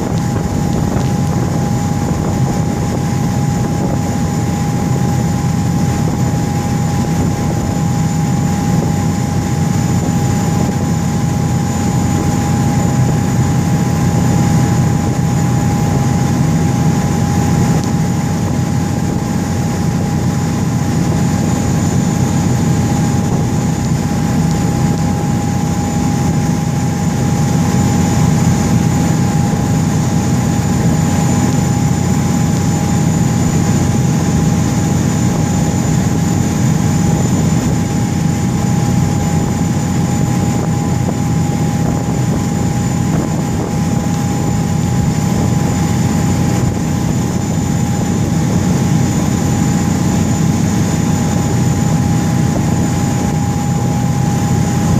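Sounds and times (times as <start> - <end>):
boat engine drone: 0.0 - 54.9
thin steady whine: 0.0 - 54.9.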